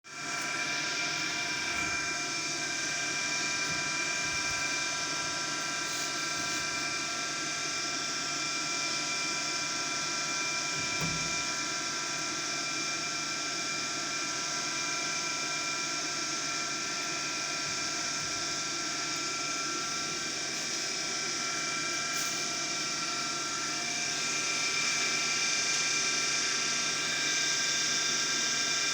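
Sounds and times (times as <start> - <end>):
washing machine whining: 0.1 - 28.9.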